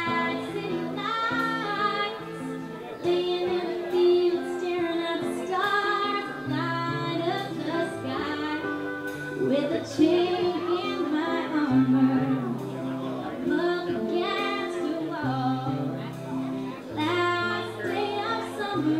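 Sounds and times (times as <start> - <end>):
live band playing: 0.0 - 18.9.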